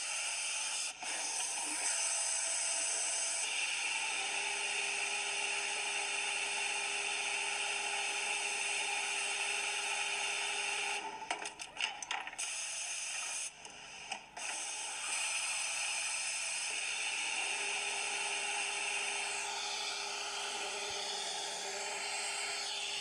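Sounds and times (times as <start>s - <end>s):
sewing machine whirring: 0.0s - 13.6s, 14.4s - 23.0s.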